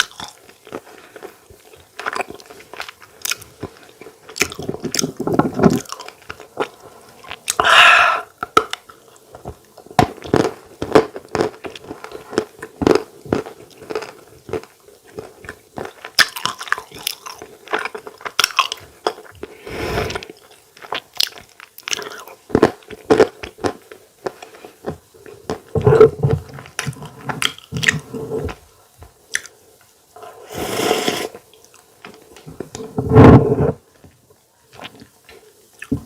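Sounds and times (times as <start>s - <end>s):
person chewing food: 0.0s - 29.6s, 33.6s - 36.0s.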